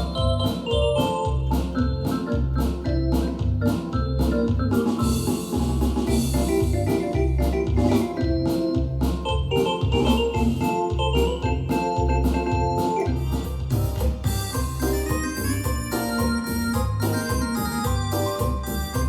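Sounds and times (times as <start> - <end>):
synthesizer organ chords and melody: 0.0 - 13.6, 14.5 - 19.0
repeating bass line: 0.0 - 19.0.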